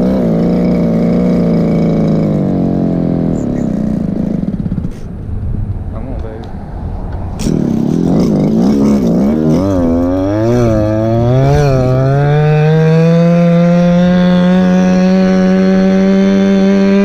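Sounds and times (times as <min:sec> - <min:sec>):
small two-stroke engine revving: 0:00.0 - 0:05.2, 0:07.4 - 0:17.0.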